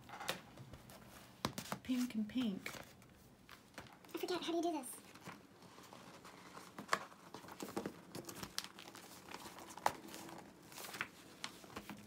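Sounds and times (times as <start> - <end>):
notebook rustling and crinkling: 0.6 - 4.2, 5.0 - 12.0.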